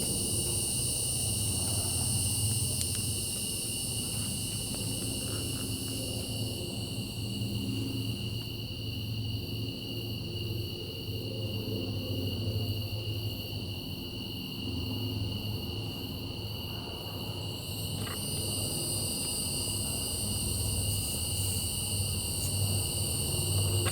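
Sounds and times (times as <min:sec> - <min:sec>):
insects trilling: 0:00.0 - 0:23.9.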